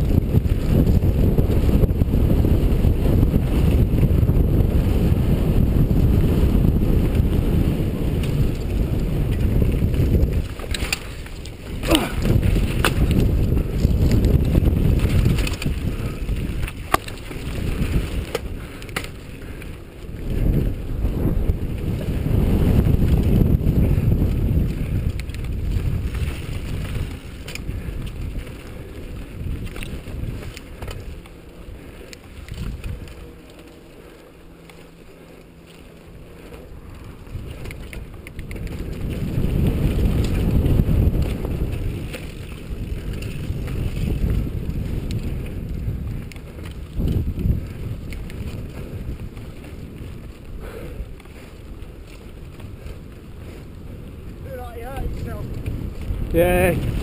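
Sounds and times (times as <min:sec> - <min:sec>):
tyres rumbling over dirt: 0:00.0 - 0:57.0
wind buffeting microphone: 0:00.0 - 0:57.0.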